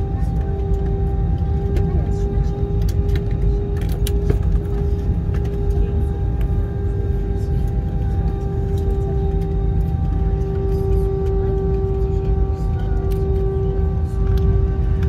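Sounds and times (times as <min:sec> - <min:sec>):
jet engine whine: 0:00.0 - 0:15.0
low cabin rumble: 0:00.0 - 0:15.0.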